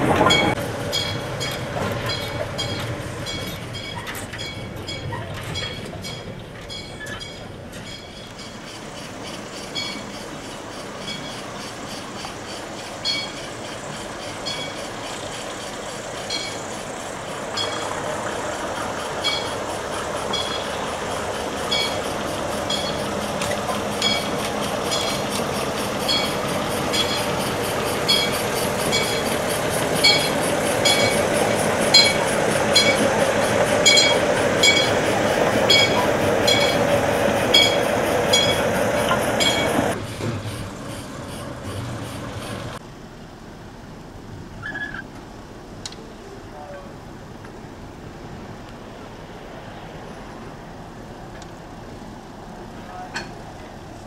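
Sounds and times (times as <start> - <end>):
locomotive rumbling: 0.0 - 54.0.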